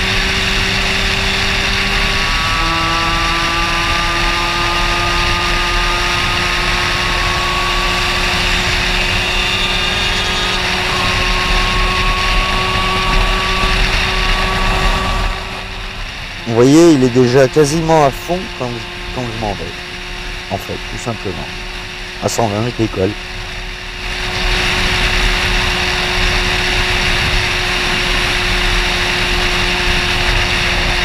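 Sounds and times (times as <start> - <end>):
moped engine at high revs: 0.0 - 31.0.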